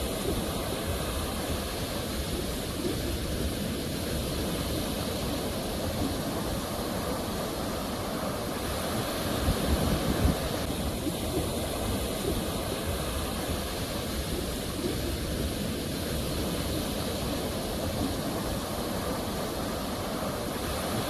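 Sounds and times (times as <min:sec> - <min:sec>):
sea waves washing: 0:00.0 - 0:21.0.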